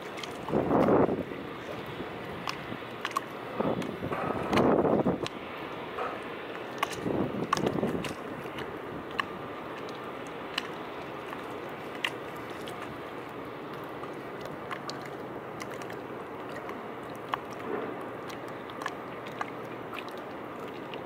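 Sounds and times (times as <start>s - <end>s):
small waves lapping on steps: 0.0s - 21.0s.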